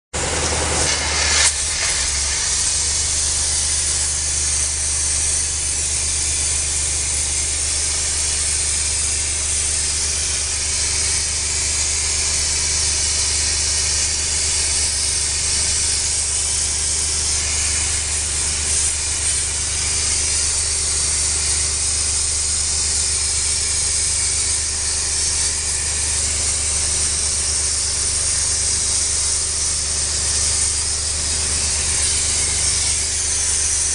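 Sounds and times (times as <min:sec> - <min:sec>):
spray jet hissing on stone: 0:00.2 - 0:33.9.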